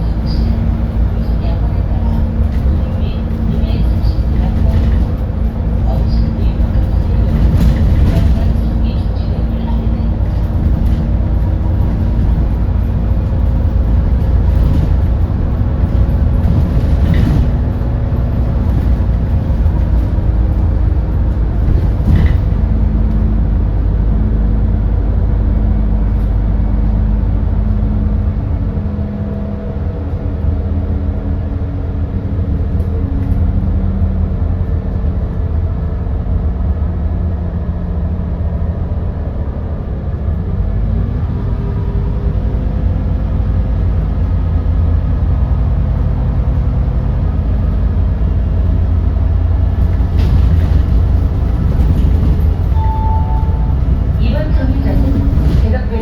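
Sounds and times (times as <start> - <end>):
bus engine rumbling: 0.0 - 56.0.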